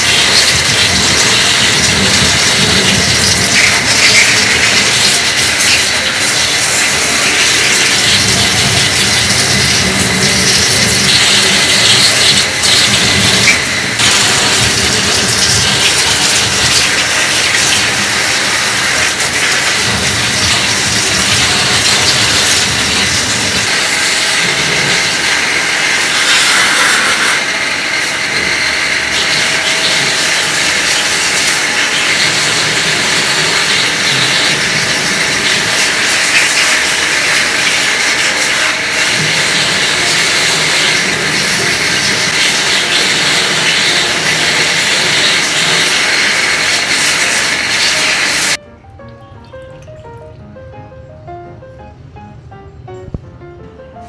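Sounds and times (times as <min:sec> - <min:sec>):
water splashing off metal drum: 0:00.0 - 0:27.4, 0:28.5 - 0:48.6
hose water jet hissing: 0:00.0 - 0:48.6.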